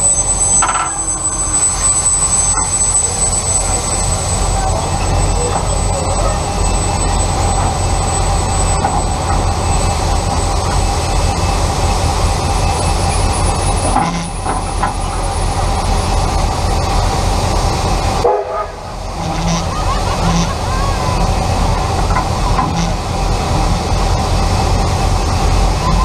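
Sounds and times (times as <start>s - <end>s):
steam train rolling: 0.0s - 26.0s.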